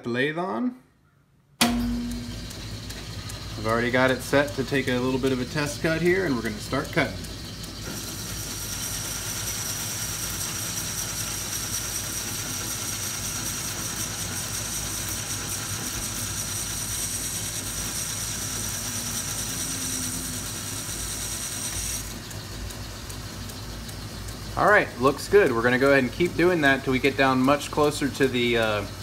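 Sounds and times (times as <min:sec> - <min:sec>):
high-pitched cutting whine: 0:01.6 - 0:29.0
lathe motor hum: 0:01.6 - 0:29.0.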